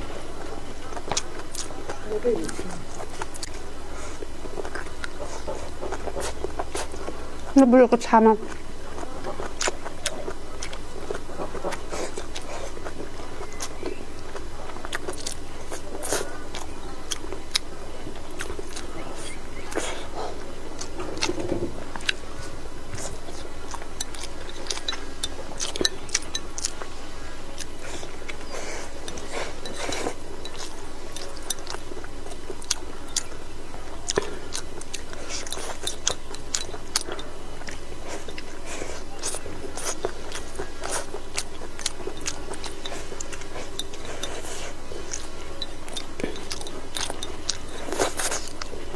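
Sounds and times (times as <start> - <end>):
chewing and mouth smacks: 0.0 - 7.6, 8.3 - 48.9
low hum: 0.0 - 48.9.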